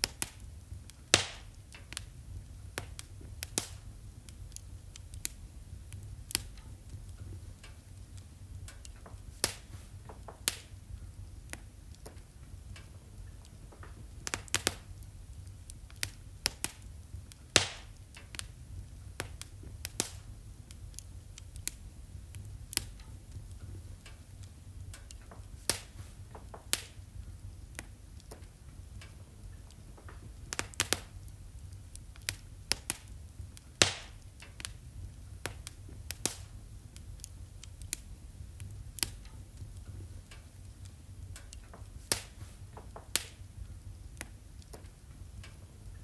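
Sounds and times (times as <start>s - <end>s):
low steady rumble: 0.0s - 46.0s
wood fire crackling: 0.0s - 46.0s.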